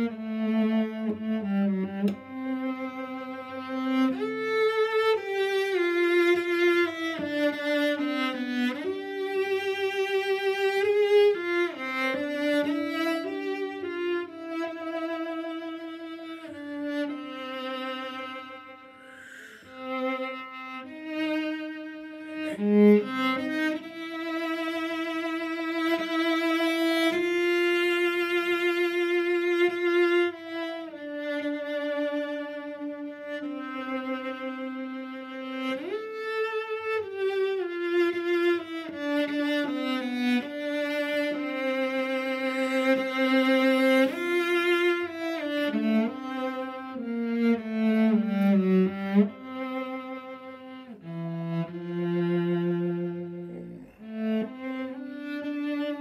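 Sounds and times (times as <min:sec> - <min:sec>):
solo cello bowed melody: 0:00.0 - 0:56.0.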